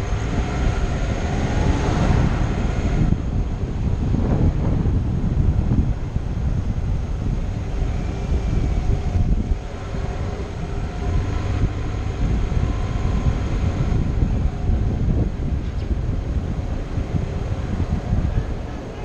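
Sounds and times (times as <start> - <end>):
car rolling rumble: 0.0 - 19.0
wind buffeting camera: 0.0 - 19.0.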